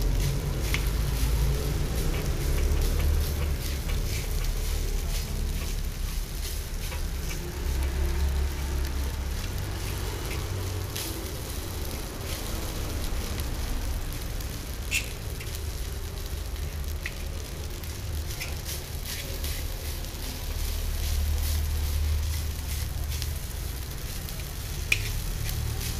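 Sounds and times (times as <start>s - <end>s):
food sizzling in a wok: 0.0s - 25.9s
low steady rumble: 0.0s - 25.9s
utensil scraping against pan: 0.1s - 13.1s, 16.8s - 25.9s.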